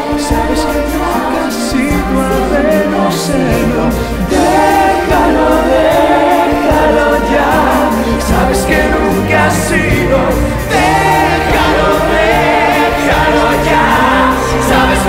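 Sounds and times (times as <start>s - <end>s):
pop-rock band playing: 0.0s - 15.0s
voices singing together: 0.0s - 15.0s.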